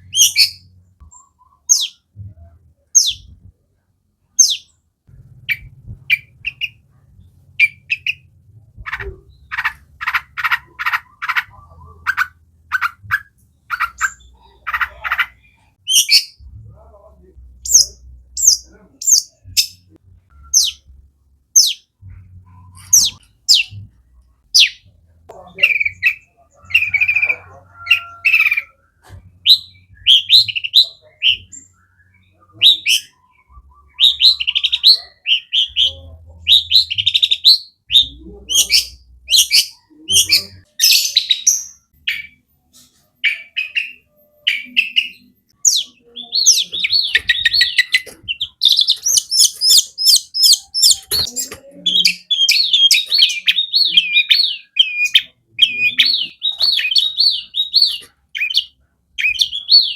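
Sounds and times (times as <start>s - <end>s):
shrike singing and chattering: 0.0s - 3.5s, 4.3s - 42.4s, 43.2s - 59.9s.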